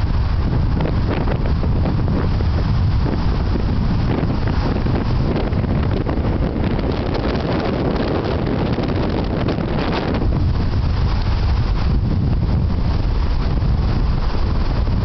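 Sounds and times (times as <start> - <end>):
waves rushing on a lake: 0.0 - 15.0
wind buffeting microphone: 0.0 - 15.0.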